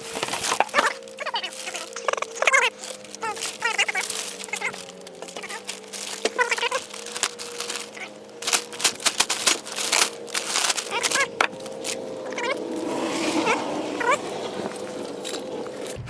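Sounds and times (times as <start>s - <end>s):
packaging crackling and rustling: 0.0s - 16.0s.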